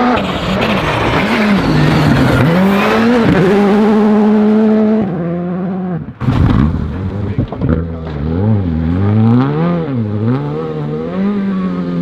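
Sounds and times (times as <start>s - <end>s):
rally car engine driven hard: 0.0s - 12.0s.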